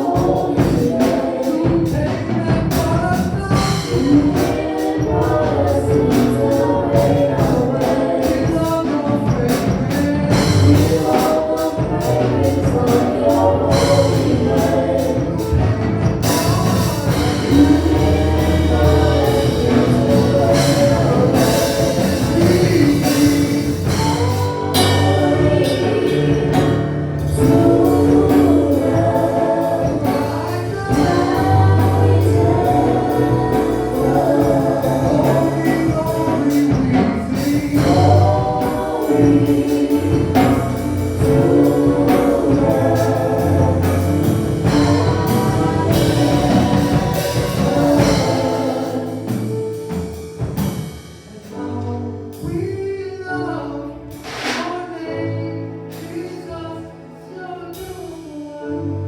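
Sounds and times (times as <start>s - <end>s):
band playing: 0.0s - 52.1s, 54.1s - 55.0s
praise team singing: 0.0s - 59.0s.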